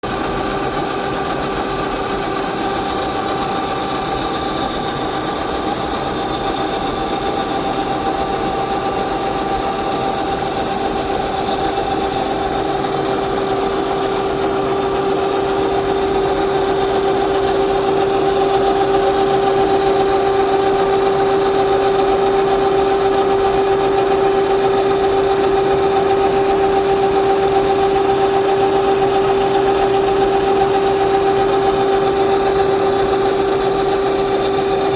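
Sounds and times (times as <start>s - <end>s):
machine tool humming: 0.1s - 34.9s.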